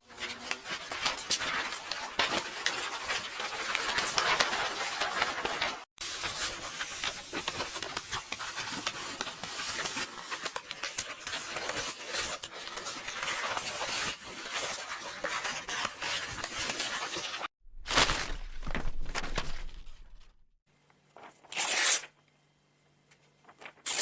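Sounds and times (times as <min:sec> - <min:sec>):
paper rustling and crackling: 0:00.1 - 0:20.3, 0:23.3 - 0:24.0.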